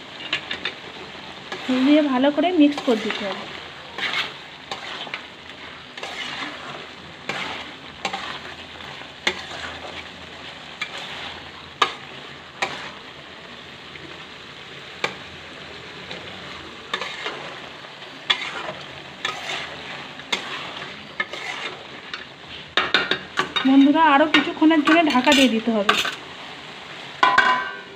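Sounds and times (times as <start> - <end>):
curry sizzling in a pot: 0.0 - 27.9
metal spatula scraping a pot: 0.1 - 13.0, 16.1 - 26.2.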